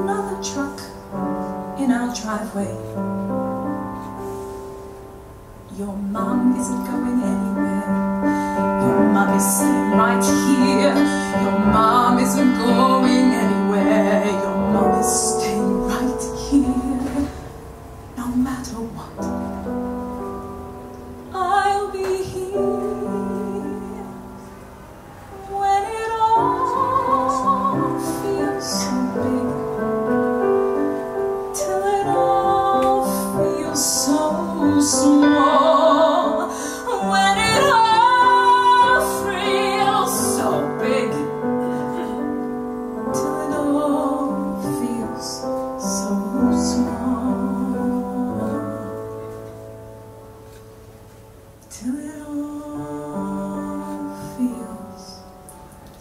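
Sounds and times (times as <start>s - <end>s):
woman singing a ballad: 0.0s - 3.8s, 5.7s - 17.6s, 18.2s - 19.8s, 21.3s - 24.5s, 25.3s - 49.5s, 51.6s - 55.6s
piano: 0.0s - 56.0s.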